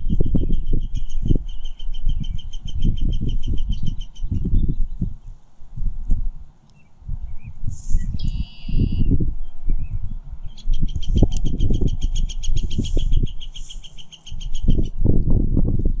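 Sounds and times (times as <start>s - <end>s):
small bird trilling: 0.0s - 5.1s, 6.8s - 15.0s.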